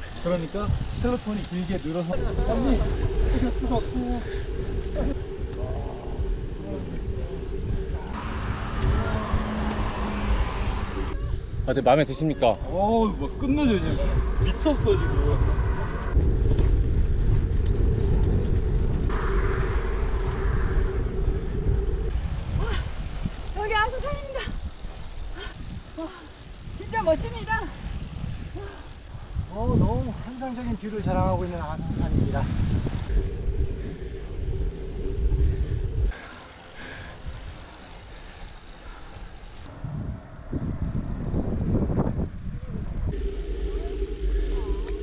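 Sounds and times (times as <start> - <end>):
wind rushing over microphone: 0.0 - 36.2, 39.5 - 45.0
road hum: 0.0 - 45.0.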